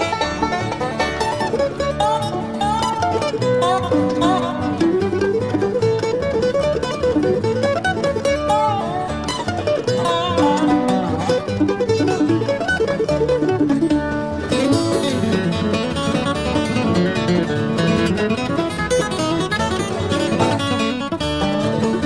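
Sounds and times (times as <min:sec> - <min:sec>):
banjo: 0:00.0 - 0:22.0
bass: 0:00.0 - 0:22.0
picked acoustic guitar: 0:00.0 - 0:22.0
sliding dobro lead: 0:00.0 - 0:22.0.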